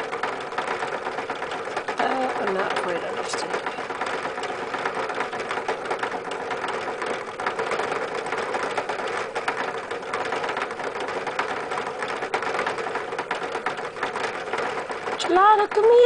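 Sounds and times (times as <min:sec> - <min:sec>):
hamster wheel rattling: 0:00.0 - 0:16.0.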